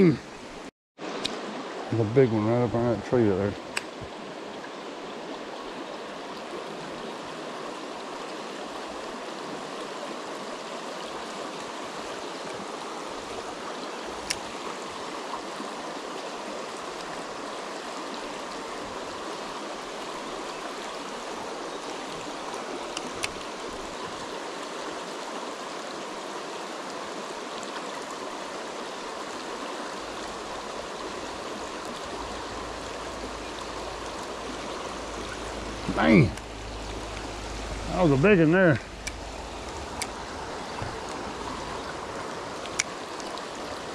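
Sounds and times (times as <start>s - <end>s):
creek rushing over stones: 0.0s - 43.9s.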